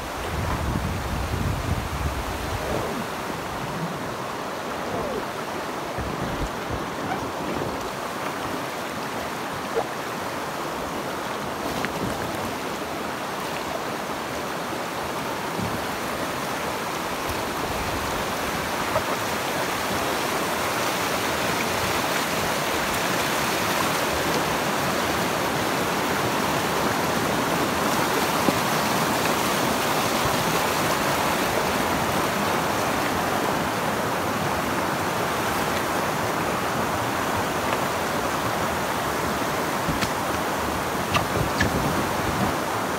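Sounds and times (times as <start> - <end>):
river water rushing over rocks: 0.0 - 42.9.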